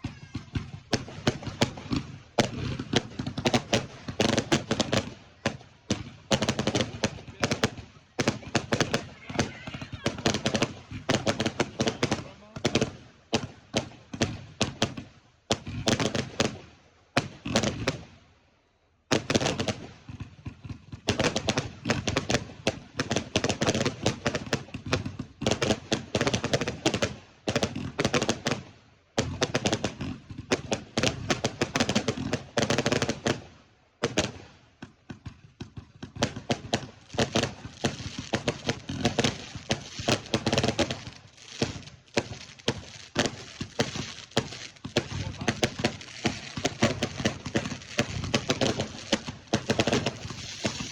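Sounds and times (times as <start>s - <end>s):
fireworks bangs and crackling: 0.0s - 18.3s, 19.0s - 50.9s.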